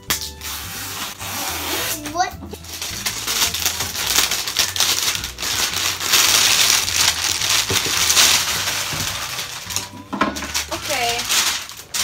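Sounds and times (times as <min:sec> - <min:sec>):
packaging crinkling and ripping: 0:00.2 - 0:12.0.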